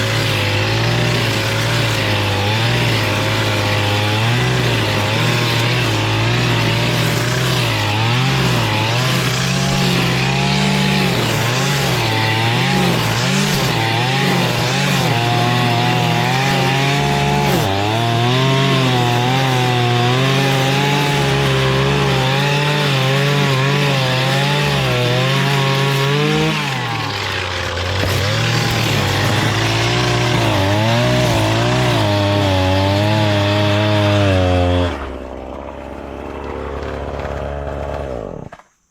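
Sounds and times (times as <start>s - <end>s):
string trimmer cutting grass: 0.0s - 38.9s.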